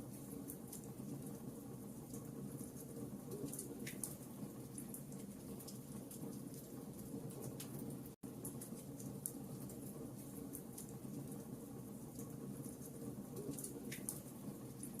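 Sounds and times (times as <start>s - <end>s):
wood fire crackling: 0.0s - 15.0s
wood fire popping: 0.0s - 15.0s.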